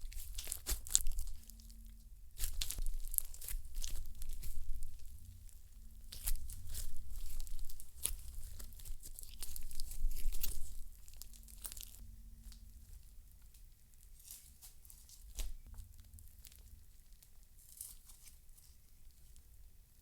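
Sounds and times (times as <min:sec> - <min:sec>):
slime crackling and popping: 0:00.0 - 0:19.2.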